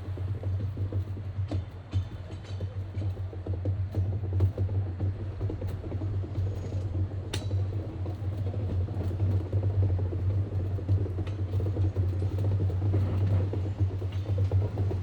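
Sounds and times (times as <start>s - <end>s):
electric train humming and rumbling: 0.0s - 15.0s.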